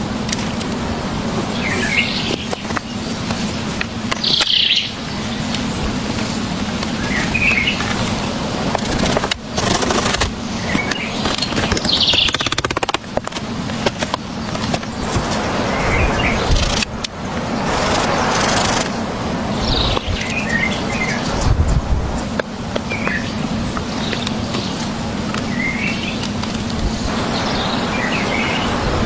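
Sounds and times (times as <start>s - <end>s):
steady background noise: 0.0s - 29.0s
small birds chirping: 0.4s - 29.0s.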